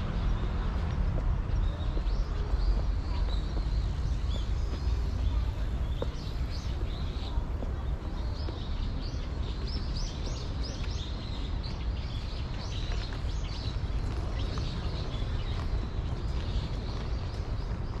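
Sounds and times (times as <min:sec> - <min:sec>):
small birds chirping: 0:01.5 - 0:18.0.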